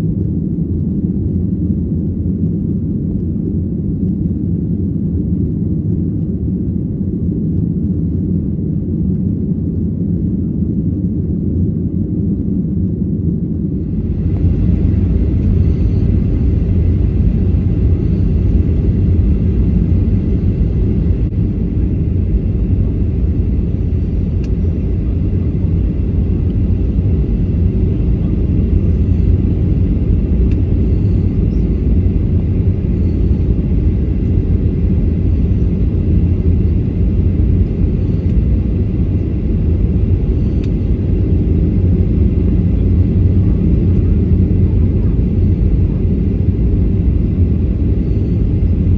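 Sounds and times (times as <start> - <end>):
airplane engine rumble in cabin: 0.0 - 48.9.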